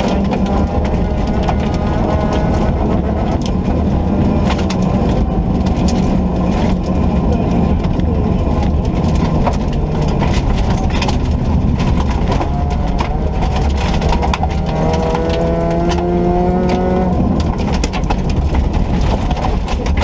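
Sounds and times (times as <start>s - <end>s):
rally car engine rumble: 0.0s - 20.0s
road noise: 0.0s - 20.0s
sharp clicks and knocks: 0.0s - 20.0s.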